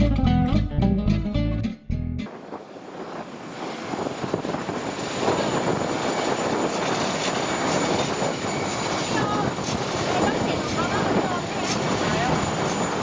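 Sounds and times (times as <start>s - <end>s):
jet aircraft roar with whine: 2.3s - 13.0s.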